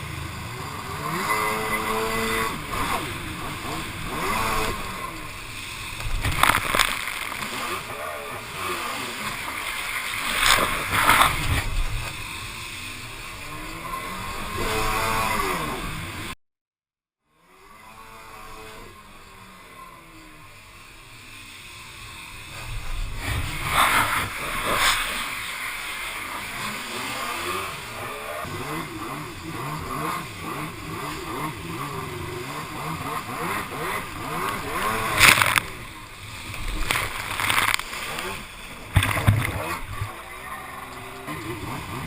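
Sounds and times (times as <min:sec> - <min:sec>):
jet ski engine running: 0:00.0 - 0:16.4, 0:17.3 - 0:42.0.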